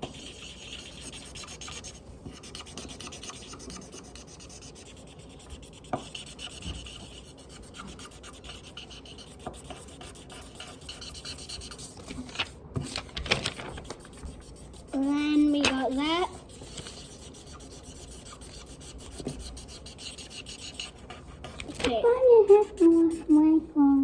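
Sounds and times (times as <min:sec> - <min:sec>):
coloring scribbled on paper: 0:00.0 - 0:12.6, 0:13.6 - 0:23.5.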